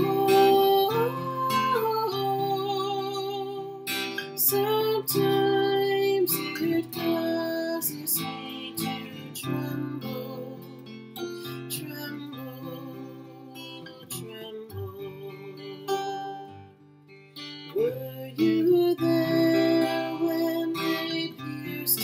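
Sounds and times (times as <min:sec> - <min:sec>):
woman singing: 0:00.0 - 0:16.2, 0:17.7 - 0:22.0
acoustic guitar strumming: 0:00.0 - 0:22.0.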